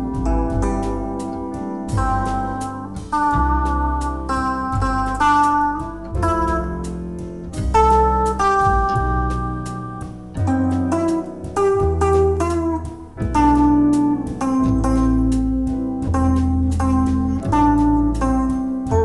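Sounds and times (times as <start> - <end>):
bossa nova instrumental music: 0.0 - 19.0.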